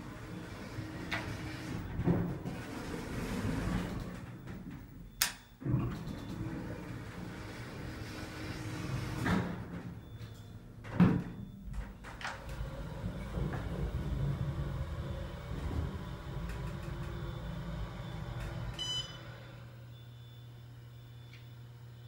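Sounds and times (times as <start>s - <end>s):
elevator doors sliding shut: 0.0s - 4.6s, 5.6s - 10.1s, 10.7s - 19.7s
elevator travel rumble: 0.0s - 19.8s.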